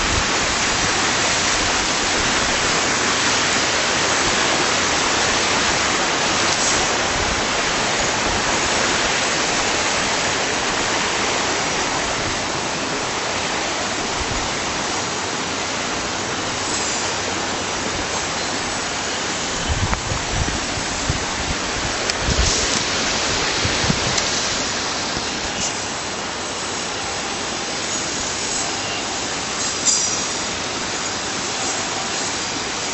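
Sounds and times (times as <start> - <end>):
water rushing in stream: 0.0 - 32.9.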